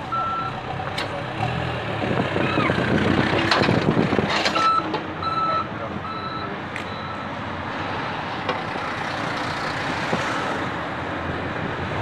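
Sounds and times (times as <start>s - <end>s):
motorway traffic: 0.0s - 12.0s.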